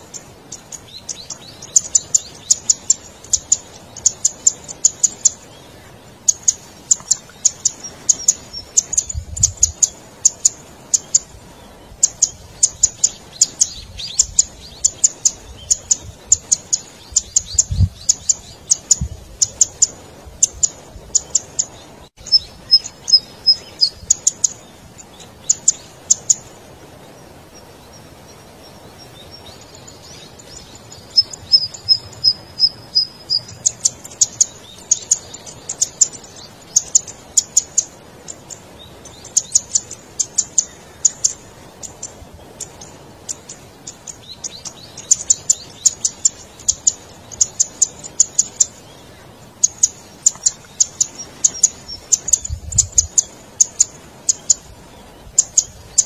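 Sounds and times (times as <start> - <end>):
bird trills: 0.0 - 26.6, 28.8 - 56.0.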